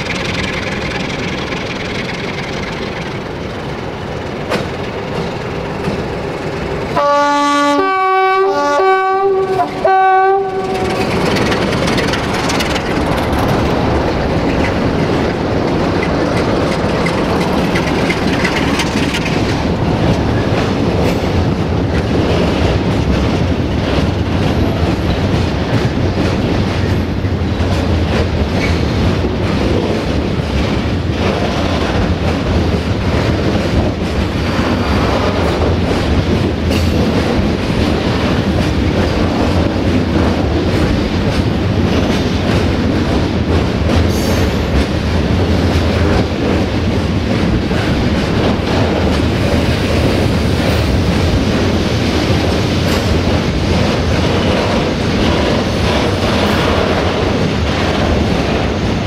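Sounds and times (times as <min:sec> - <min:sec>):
train wheels clattering: 0:00.0 - 0:59.0.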